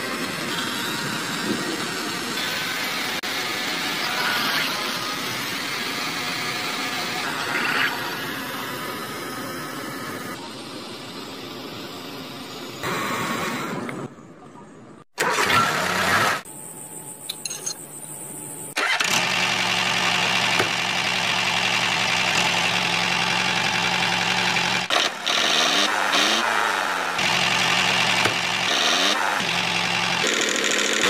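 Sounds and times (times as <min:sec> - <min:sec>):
small engine running: 0:00.0 - 0:12.8, 0:18.8 - 0:31.0.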